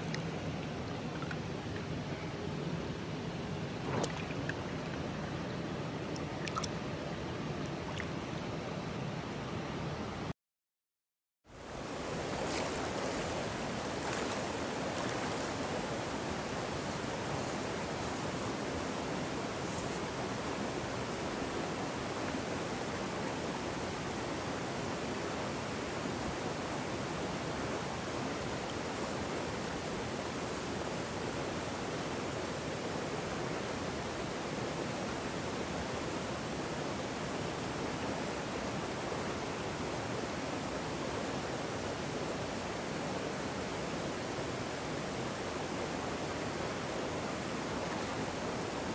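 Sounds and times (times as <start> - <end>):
stream rushing over rocks: 0.0 - 8.4, 11.6 - 48.9.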